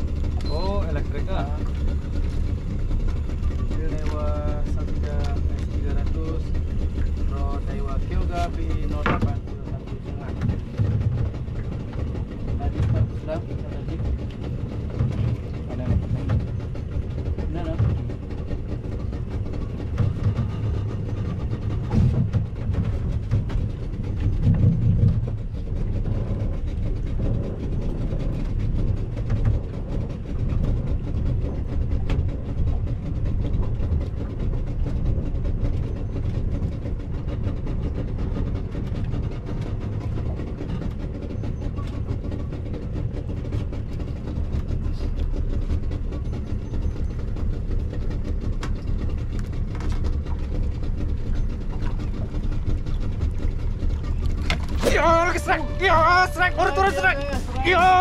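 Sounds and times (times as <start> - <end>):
steady motor hum: 0.0 - 58.0
wind rumbling on microphone: 0.0 - 58.0.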